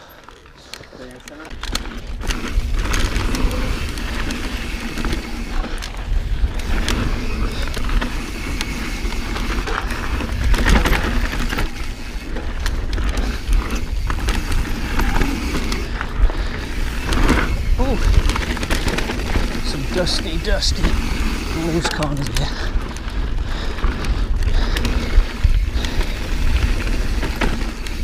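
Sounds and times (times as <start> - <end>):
bike rattling over bumps: 0.0 - 28.0
tyre and wind rush: 1.5 - 28.0.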